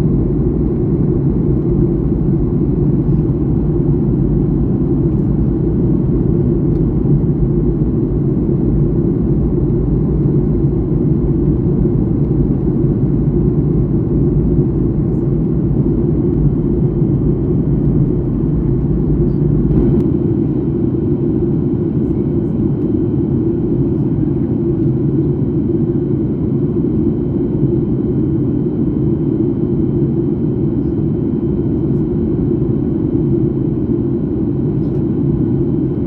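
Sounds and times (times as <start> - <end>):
jet engine and airflow roar: 0.0 - 36.0.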